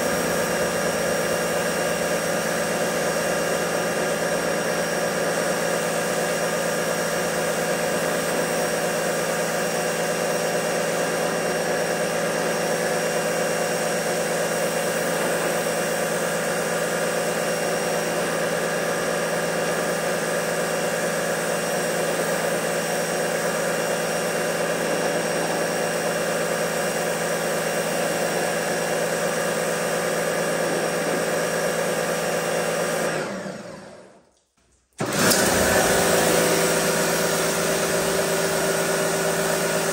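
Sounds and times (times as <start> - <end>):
pressure washer motor humming: 0.0 - 34.1, 35.0 - 39.9.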